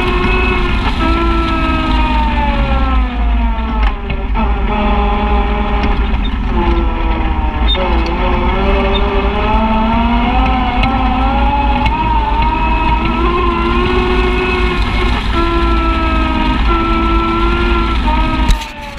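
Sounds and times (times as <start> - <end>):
steady low rumble: 0.0 - 18.9
utv engine running: 0.0 - 18.9.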